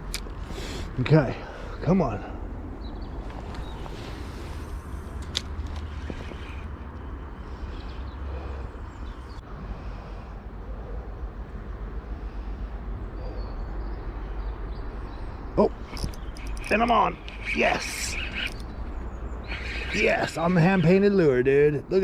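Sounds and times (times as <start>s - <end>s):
low drone: 0.0s - 21.4s
outdoor rumble and hiss: 0.0s - 22.0s.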